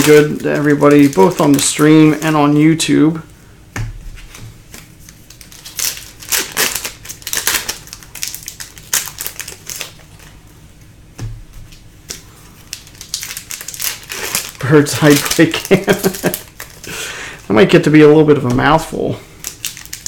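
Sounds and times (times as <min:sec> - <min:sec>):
trading cards rustling: 0:00.0 - 0:03.0, 0:04.2 - 0:10.9, 0:11.6 - 0:20.0.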